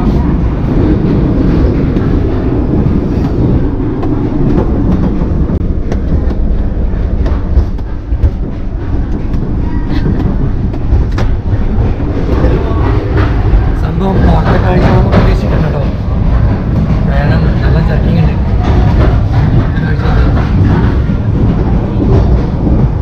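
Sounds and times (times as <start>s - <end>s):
sharp clicks and knocks: 0.0s - 23.0s
train wheels rumbling: 0.0s - 23.0s.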